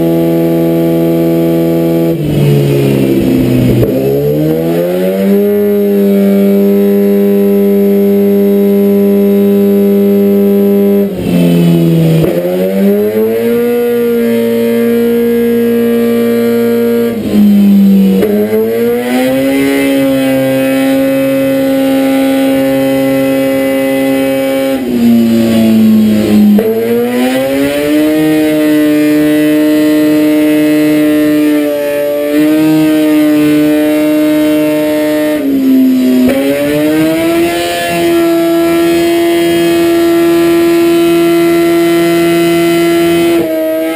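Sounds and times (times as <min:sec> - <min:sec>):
motorcycle engine revving on dyno: 0:00.0 - 0:43.9.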